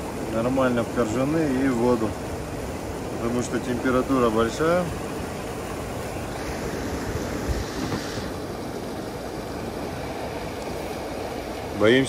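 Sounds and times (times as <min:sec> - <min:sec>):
mountain river rushing: 0:00.0 - 0:12.0.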